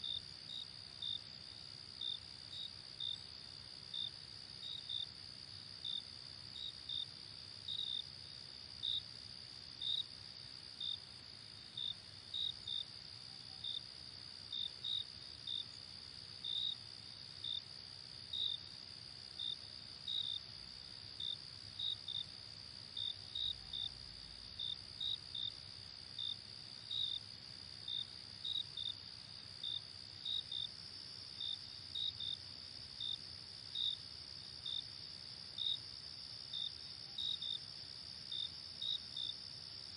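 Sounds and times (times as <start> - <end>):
nearer cricket chirps: 0.0 - 39.9.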